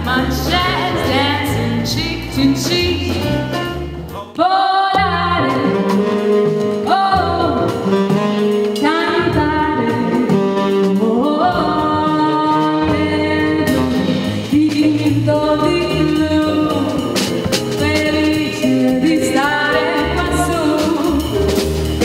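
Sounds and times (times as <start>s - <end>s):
woman singing: 0.0s - 3.6s, 4.3s - 21.5s
jazz band playing: 0.0s - 22.0s.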